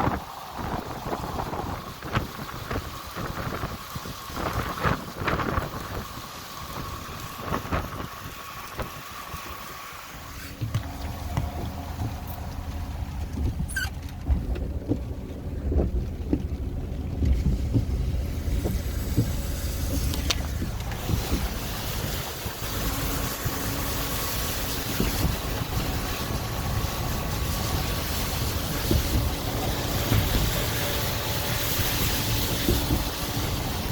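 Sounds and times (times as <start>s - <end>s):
wind gusting over microphone: 0.0s - 33.9s.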